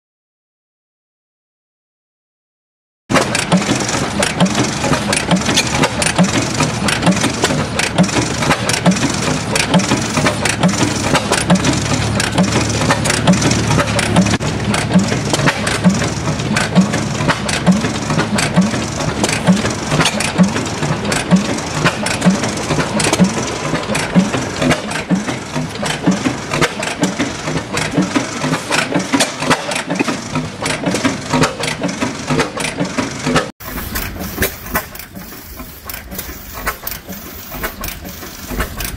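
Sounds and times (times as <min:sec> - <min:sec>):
gas engine running: 0:03.1 - 0:38.9.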